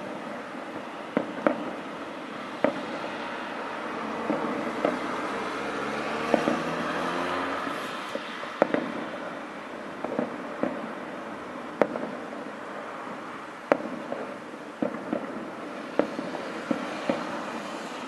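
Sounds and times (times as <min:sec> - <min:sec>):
fireworks bangs: 0:00.0 - 0:18.0
steady background hiss: 0:00.0 - 0:18.0.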